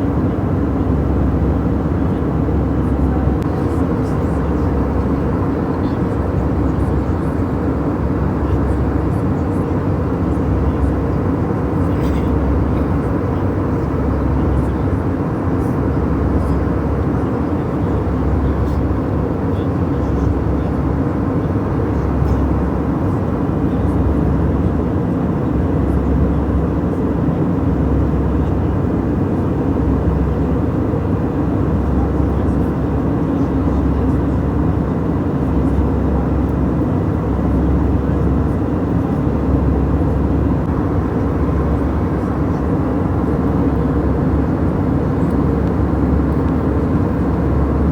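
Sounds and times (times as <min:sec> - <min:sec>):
jet engines and airflow rumble: 0:00.0 - 0:47.9.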